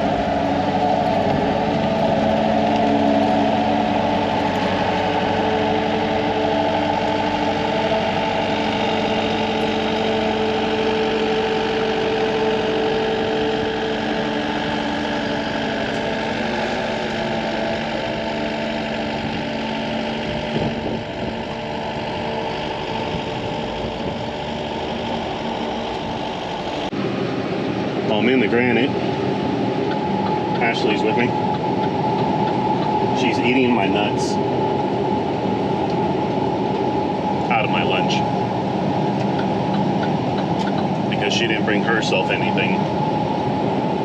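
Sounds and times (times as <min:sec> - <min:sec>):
dump truck engine running: 0:00.0 - 0:44.0.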